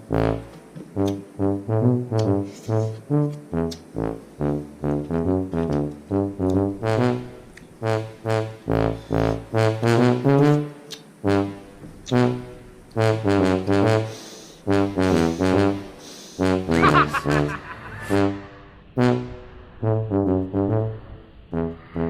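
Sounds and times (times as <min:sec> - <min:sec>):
upbeat brass music: 0:00.0 - 0:22.0.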